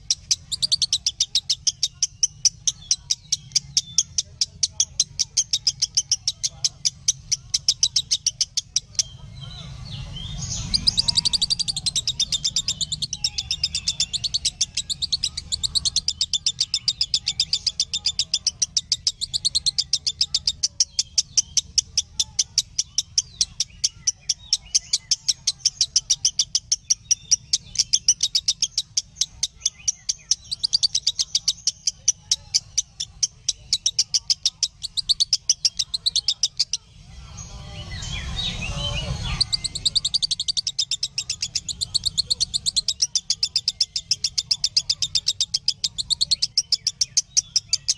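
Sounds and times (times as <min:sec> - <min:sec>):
bird chirping rapidly: 0:00.0 - 0:47.9.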